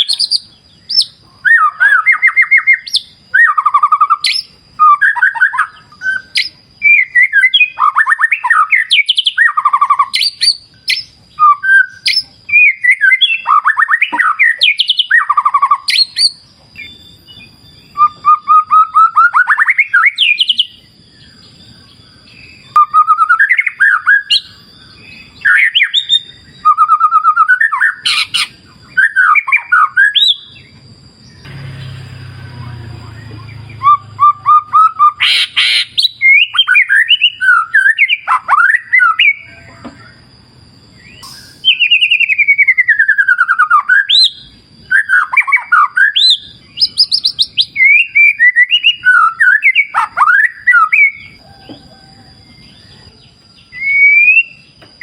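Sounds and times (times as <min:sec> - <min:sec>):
thin steady high tone: 0:00.0 - 0:47.5
bird singing whistled trills: 0:00.0 - 0:55.0.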